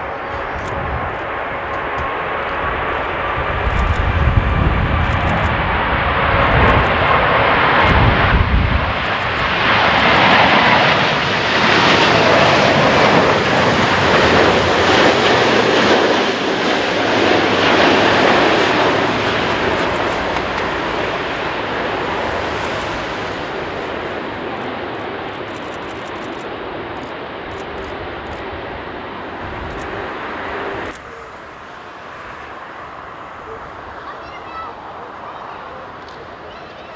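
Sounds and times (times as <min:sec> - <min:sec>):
wind buffeting microphone: 0:00.0 - 0:31.6
jet airliner engine roar: 0:00.0 - 0:36.9.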